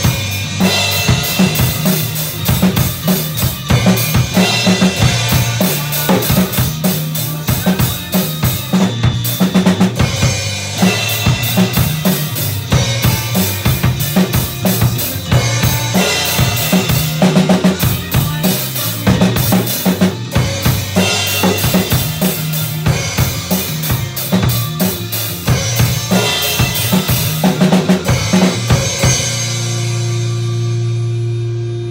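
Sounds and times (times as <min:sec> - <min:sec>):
backing track with bass line: 0:00.0 - 0:31.9
drum kit played with sticks: 0:00.0 - 0:31.9.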